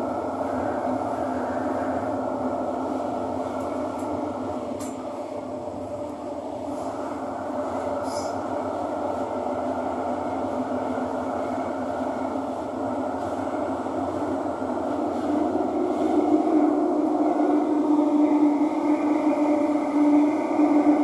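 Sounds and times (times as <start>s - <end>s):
train rumble inside carriage: 0.0s - 21.0s.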